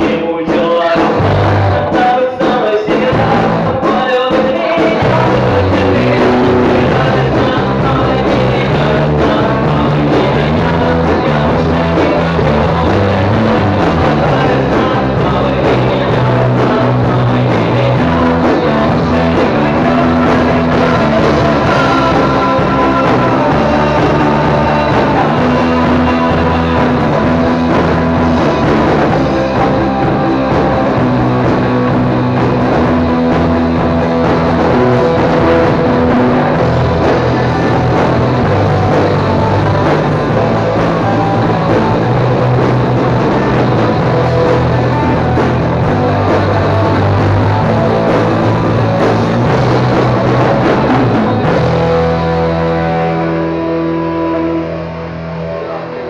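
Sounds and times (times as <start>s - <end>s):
drum kit: 0.0s - 56.0s
electric guitar: 0.0s - 56.0s
rock band music: 0.0s - 56.0s.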